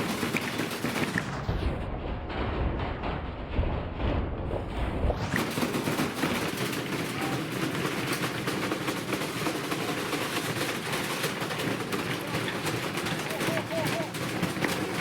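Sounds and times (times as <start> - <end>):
washing machine rattling and knocking: 0.0 - 15.0.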